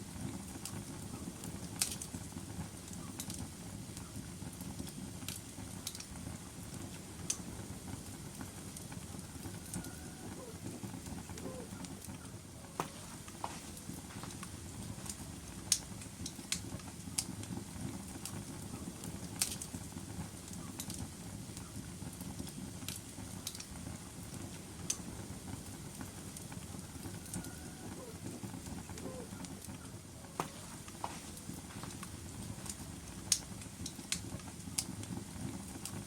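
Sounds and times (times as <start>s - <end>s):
low rustle of flames: 0.0s - 36.0s
wood fire crackles and pops: 0.0s - 36.0s.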